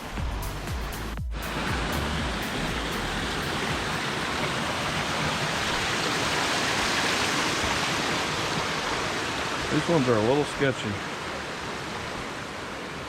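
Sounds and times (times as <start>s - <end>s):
mountain creek rushing: 0.0s - 13.0s.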